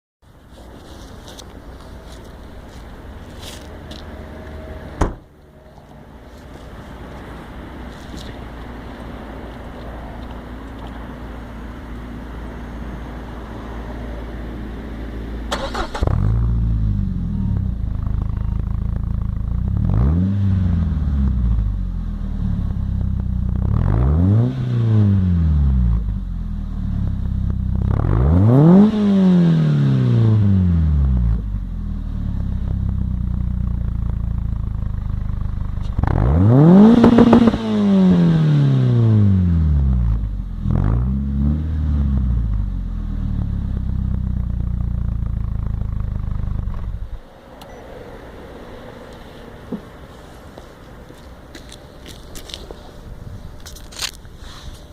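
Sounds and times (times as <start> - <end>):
car engine idling and revving: 0.2 - 54.9.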